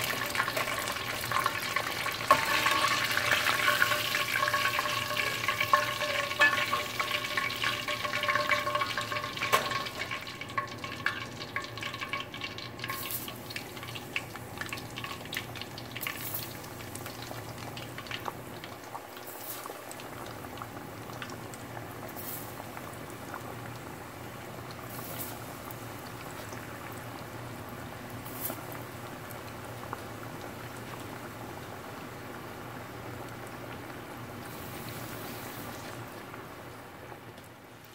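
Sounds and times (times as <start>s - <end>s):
chicken deep-frying in oil: 0.0s - 37.9s.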